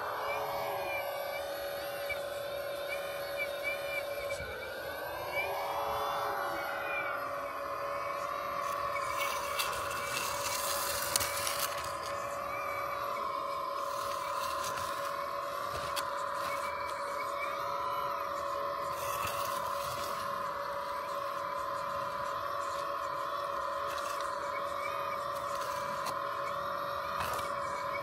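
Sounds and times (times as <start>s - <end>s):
hydraulic pump whining: 0.0s - 28.0s.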